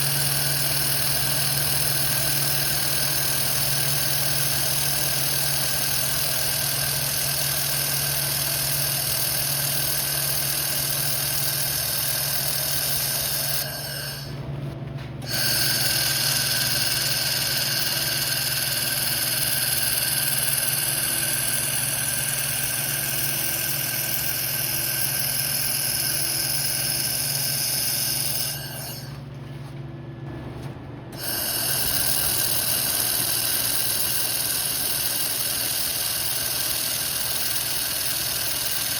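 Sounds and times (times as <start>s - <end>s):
laser welder hissing: 0.0s - 14.4s, 15.2s - 29.2s, 31.2s - 38.9s
constant machine hum: 0.0s - 38.9s.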